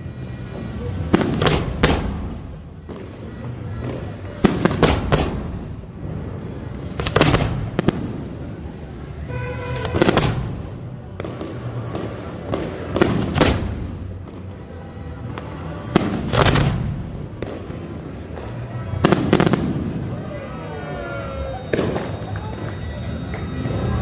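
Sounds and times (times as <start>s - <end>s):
fireworks crackling: 0.0s - 20.6s, 21.4s - 24.0s
fireworks booming: 0.4s - 20.4s, 21.6s - 22.4s.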